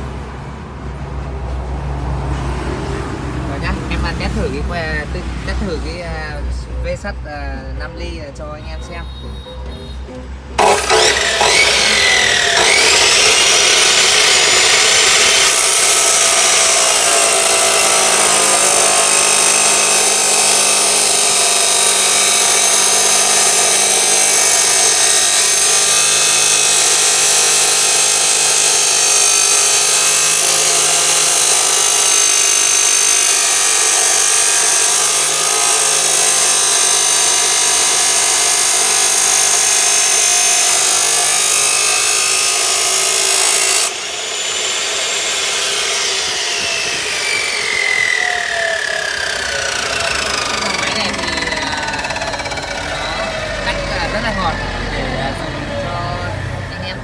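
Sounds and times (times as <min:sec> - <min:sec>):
cut-off saw grinding steel: 0:07.9 - 0:57.0.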